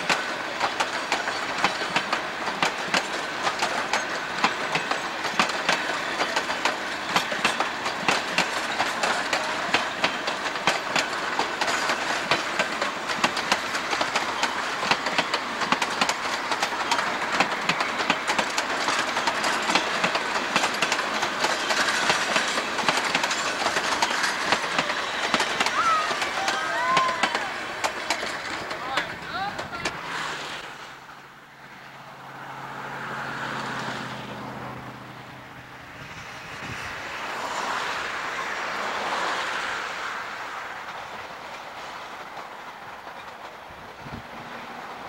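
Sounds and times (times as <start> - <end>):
train wheels clicking over rail joints: 0.0 - 30.8, 36.0 - 45.0.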